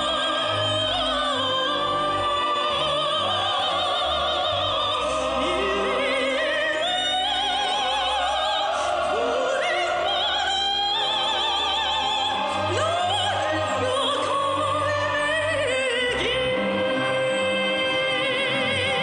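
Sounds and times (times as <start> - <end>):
operatic singing voice: 0.0 - 19.0
orchestral accompaniment: 0.0 - 19.0.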